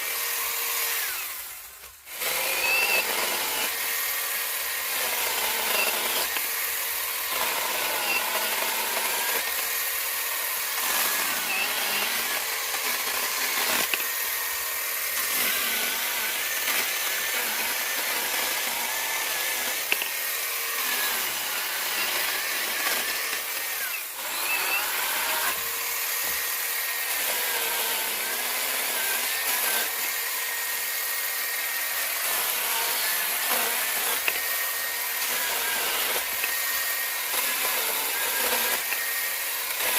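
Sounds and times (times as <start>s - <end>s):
chainsaw motor whine: 0.0s - 39.9s.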